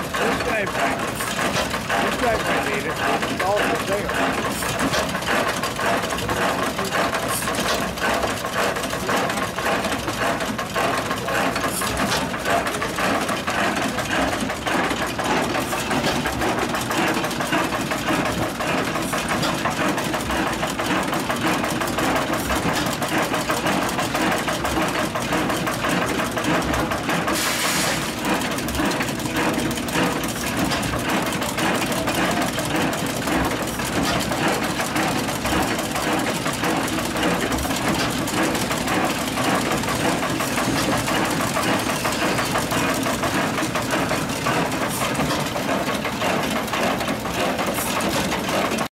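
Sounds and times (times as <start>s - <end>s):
mechanical clatter: 0.0s - 48.9s
stationary engine driving a mill: 0.0s - 48.9s.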